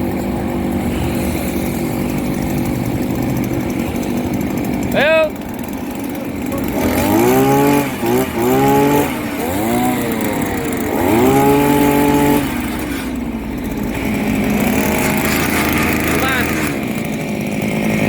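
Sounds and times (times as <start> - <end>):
auger engine revving: 0.0 - 18.0.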